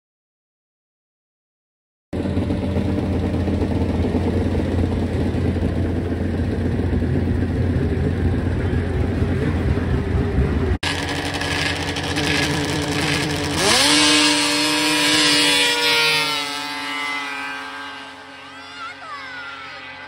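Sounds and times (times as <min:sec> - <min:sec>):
engine din: 0:02.2 - 0:20.0
snowmobile engines revving: 0:02.2 - 0:20.0.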